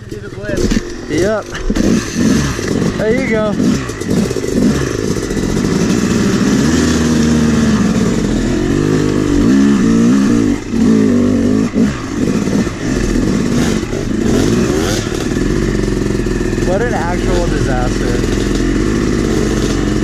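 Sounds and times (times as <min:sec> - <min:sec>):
two-stroke dirt bike engine revving: 0:00.0 - 0:20.0.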